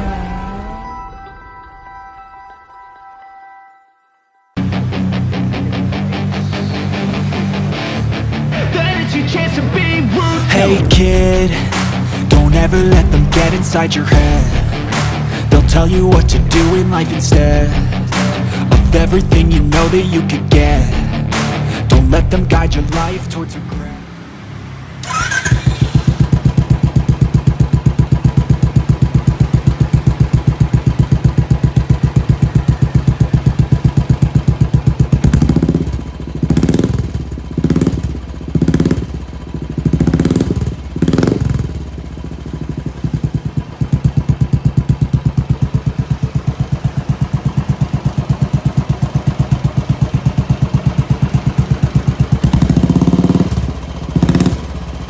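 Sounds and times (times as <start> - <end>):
motorcycle engine idling and revving: 0.0 - 1.6, 4.6 - 55.0.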